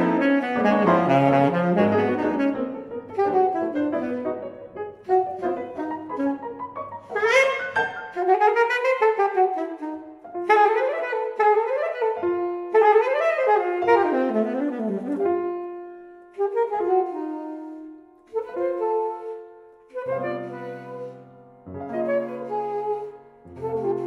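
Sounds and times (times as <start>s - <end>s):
alto saxophone playing jazz: 0.0s - 24.0s
jazz piano runs: 0.0s - 24.0s.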